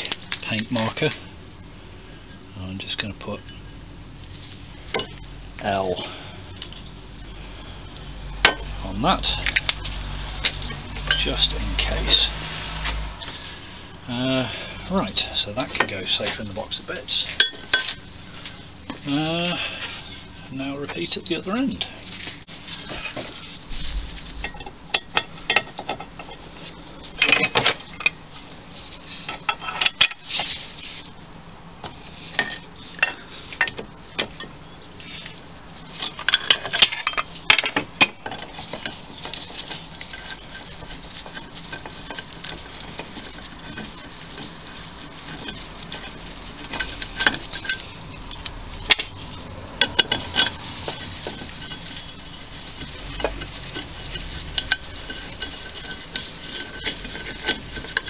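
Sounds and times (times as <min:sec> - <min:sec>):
metal tools clinking and scraping: 0:00.0 - 0:01.3, 0:02.0 - 0:07.0, 0:08.4 - 0:13.5, 0:14.1 - 0:31.0, 0:32.0 - 0:58.0.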